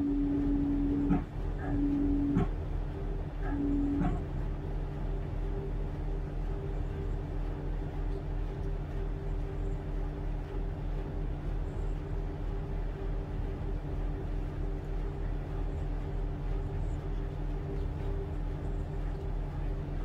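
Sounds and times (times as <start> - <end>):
throbbing diesel engine drone: 0.0 - 20.0.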